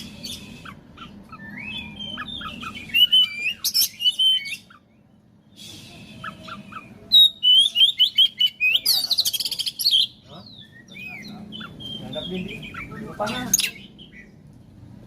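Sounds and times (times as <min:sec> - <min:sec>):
bird singing whistled notes: 0:00.0 - 0:14.4.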